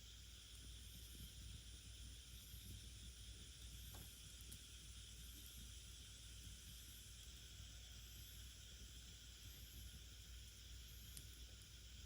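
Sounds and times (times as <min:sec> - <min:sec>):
wood fire hissing: 0:00.0 - 0:12.0
fire crackle: 0:00.3 - 0:12.0.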